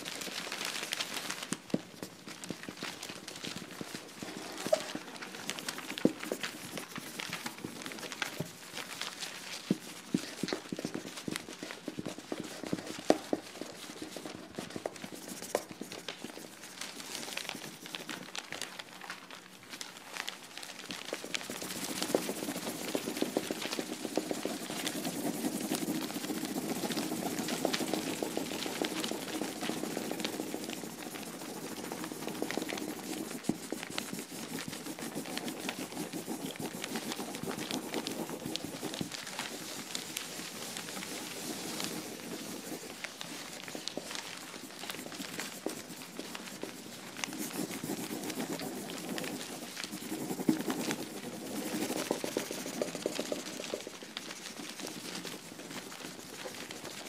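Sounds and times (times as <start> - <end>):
rapid clicking and crackling: 0.0 - 57.0.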